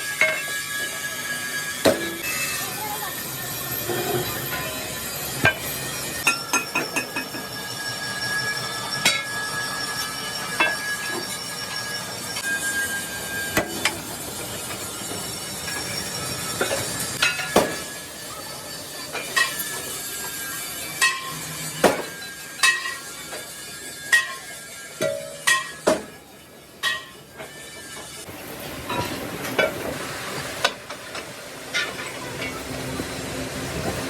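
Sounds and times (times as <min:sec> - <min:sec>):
workshop background noise: 0:00.0 - 0:34.0.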